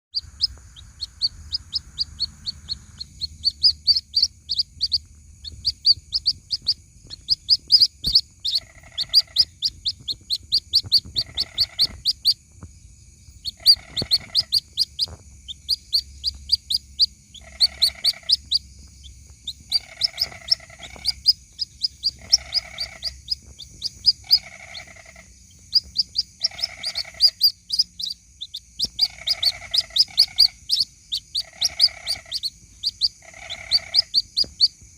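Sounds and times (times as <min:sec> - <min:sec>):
lower repeated bird call: 0:00.1 - 0:12.4, 0:13.3 - 0:34.8
chicks peeping: 0:00.1 - 0:12.6, 0:13.2 - 0:34.9
steady high whine: 0:00.2 - 0:28.9.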